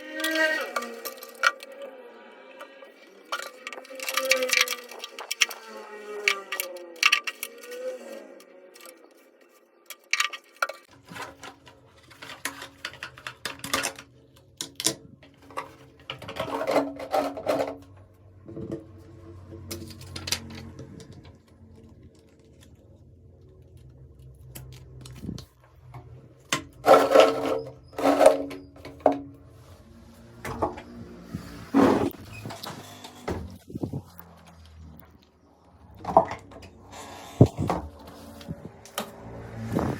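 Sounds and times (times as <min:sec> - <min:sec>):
plastic parts clicking and knocking: 0:00.0 - 0:01.9, 0:02.6 - 0:39.2.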